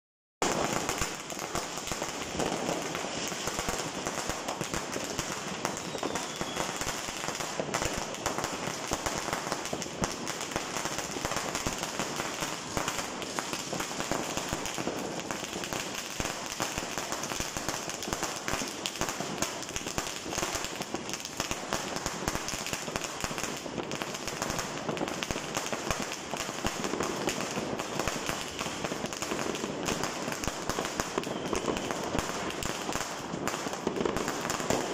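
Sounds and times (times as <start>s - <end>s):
firecrackers crackling: 0.4s - 34.9s.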